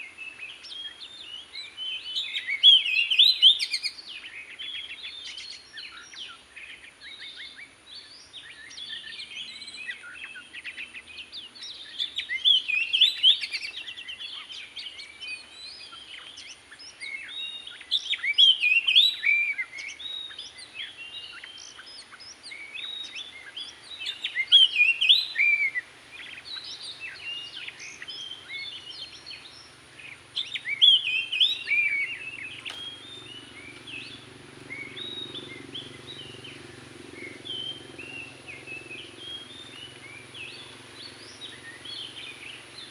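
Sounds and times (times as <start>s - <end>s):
bird singing whistled song: 0.0s - 42.9s.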